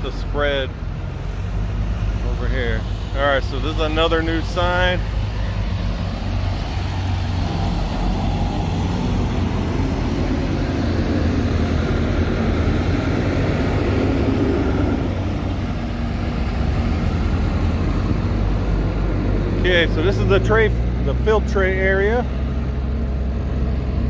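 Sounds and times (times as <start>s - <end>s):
heavy trucks: 0.0s - 24.0s
passing traffic rumble: 0.0s - 24.0s.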